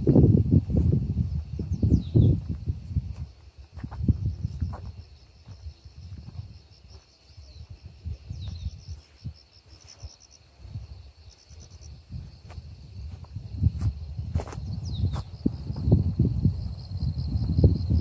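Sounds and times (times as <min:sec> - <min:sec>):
insect chirping: 0:00.0 - 0:18.0
wind rumble on microphone: 0:00.0 - 0:18.0.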